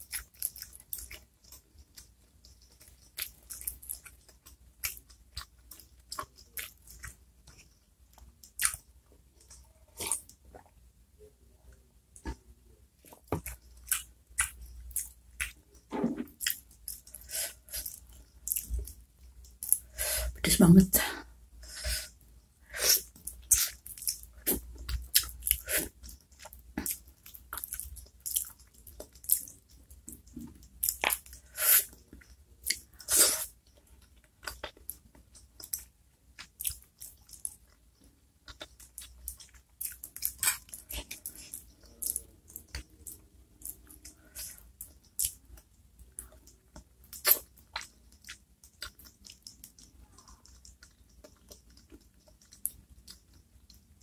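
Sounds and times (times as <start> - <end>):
wet chewing and smacking: 0.0 - 10.8, 13.0 - 19.9, 23.0 - 54.0.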